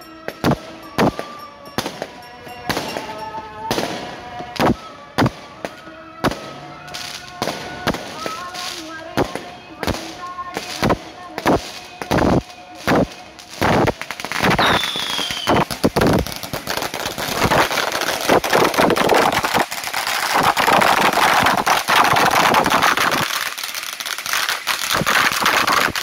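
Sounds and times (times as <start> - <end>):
firecracker bangs: 0.0 - 26.0
firecracker string crackling: 0.0 - 26.0.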